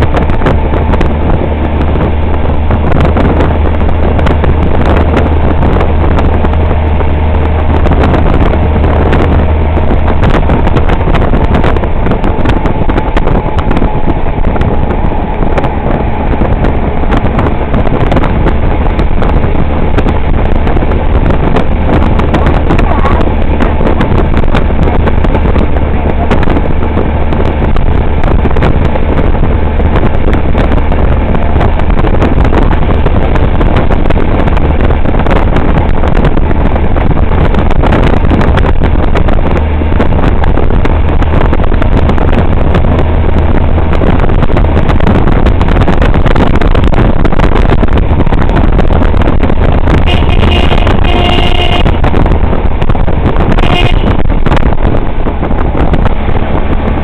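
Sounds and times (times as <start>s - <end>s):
loud engine drone: 0.0s - 57.0s
wind buffeting microphone: 0.0s - 57.0s.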